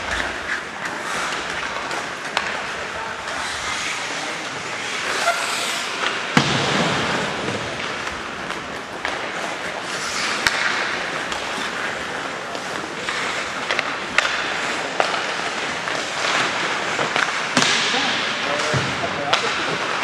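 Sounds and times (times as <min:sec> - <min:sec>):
hockey sticks and puck clacking: 0:00.0 - 0:20.0
skates scraping on ice: 0:00.0 - 0:20.0.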